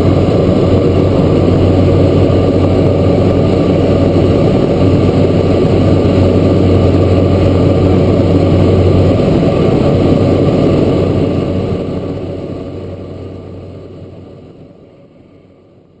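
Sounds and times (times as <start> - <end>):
low propeller hum: 0.0 - 16.0
turboprop engine and propeller: 0.0 - 16.0.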